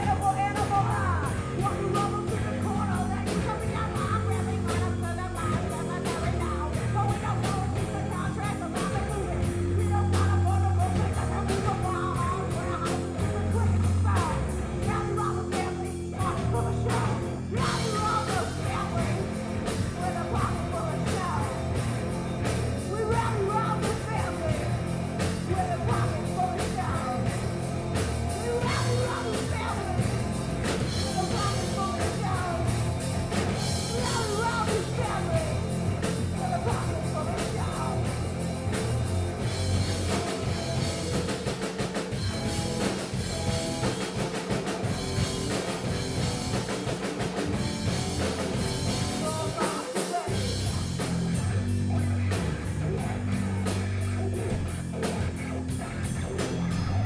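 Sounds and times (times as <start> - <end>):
woman singing: 0.0 - 21.9, 22.8 - 27.4, 28.0 - 38.8, 42.3 - 51.4
live rock band playing: 0.0 - 57.0.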